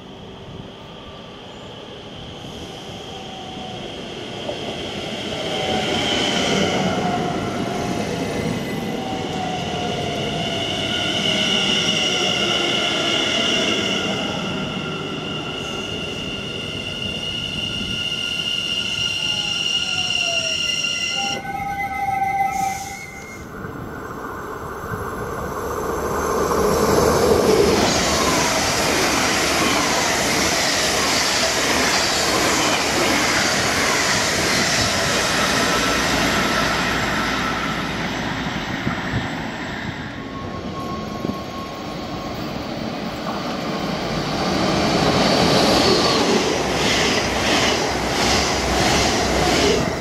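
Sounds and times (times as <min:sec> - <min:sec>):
electric trains passing: 0:00.0 - 0:50.0.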